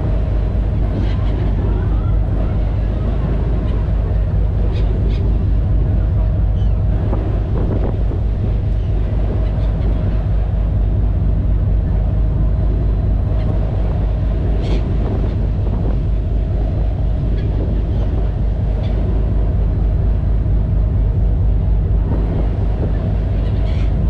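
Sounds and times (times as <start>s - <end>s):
ferry engine rumbling: 0.0s - 24.0s
wind buffeting microphone: 0.0s - 24.0s.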